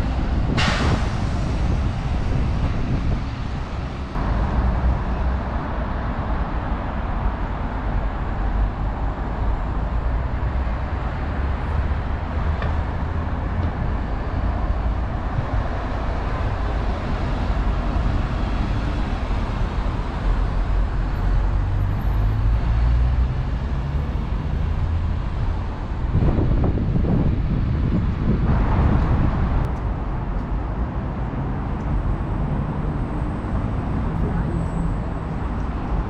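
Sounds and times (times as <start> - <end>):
bus driving past: 0.0 - 36.0
street traffic noise: 0.0 - 36.0.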